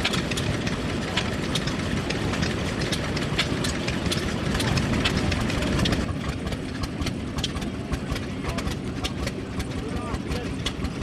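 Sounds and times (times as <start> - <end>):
engine ticking: 0.0 - 11.0
old engine rumbling: 0.0 - 11.0.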